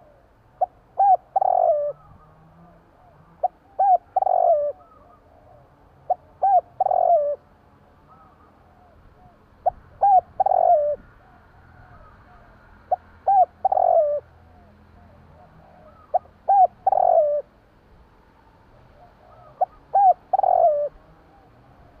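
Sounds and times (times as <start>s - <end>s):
dove cooing: 0.0s - 7.5s, 8.1s - 17.5s, 18.9s - 22.0s.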